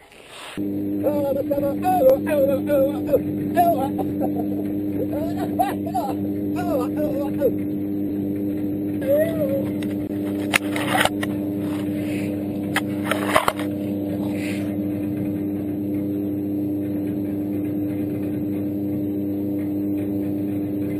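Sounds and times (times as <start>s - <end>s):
machine motor humming: 0.6s - 20.9s.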